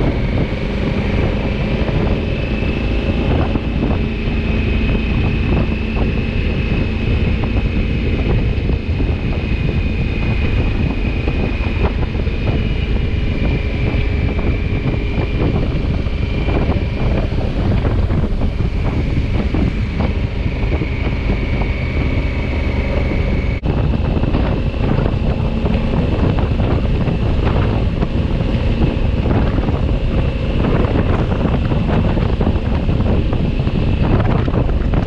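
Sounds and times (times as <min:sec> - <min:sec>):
motorcycle engine droning: 0:00.0 - 0:35.0
wind over microphone: 0:00.0 - 0:35.0.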